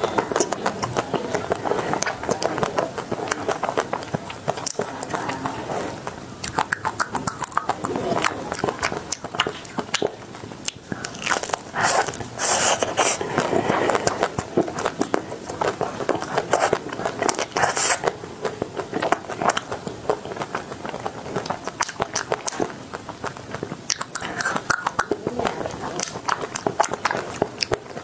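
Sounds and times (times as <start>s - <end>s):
biting into chocolate shell: 0.0s - 28.0s
crunchy chewing: 0.0s - 28.0s.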